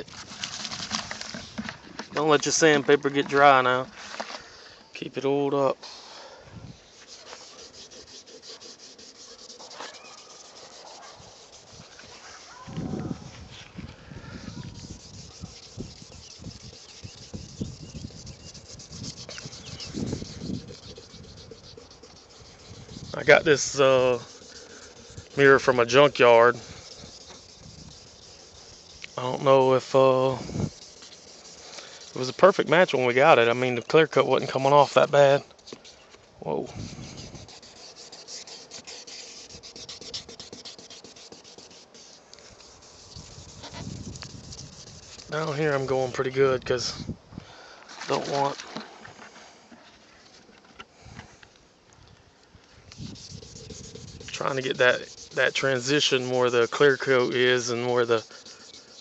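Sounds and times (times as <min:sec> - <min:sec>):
sandpaper rubbing: 0:00.0 - 0:04.4, 0:05.8 - 0:47.1, 0:47.9 - 0:48.8, 0:52.9 - 0:59.0.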